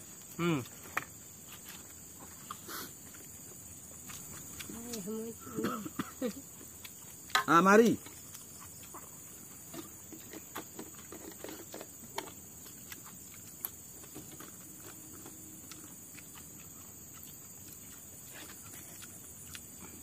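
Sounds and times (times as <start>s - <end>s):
insects chirring: 0.0s - 20.0s
people eating with hands: 0.0s - 20.0s.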